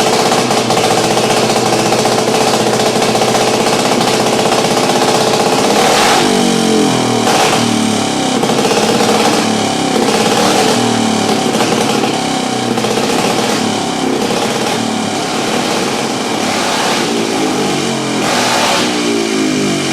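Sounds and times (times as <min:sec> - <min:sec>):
single-cylinder engine revving: 0:00.0 - 0:19.9.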